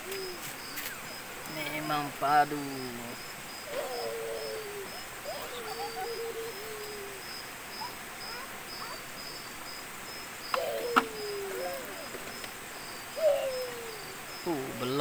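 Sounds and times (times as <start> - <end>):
faint wavering calls: 0.0 - 1.4, 2.5 - 9.6, 10.2 - 15.0
cricket chirping: 0.0 - 15.0
low steady hiss: 0.0 - 15.0.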